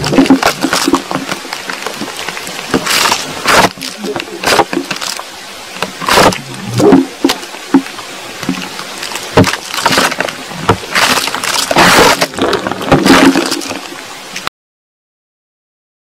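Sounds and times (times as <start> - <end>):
sharp cracks and knocks: 0.0 - 13.9
soil trickling with water: 0.0 - 14.5.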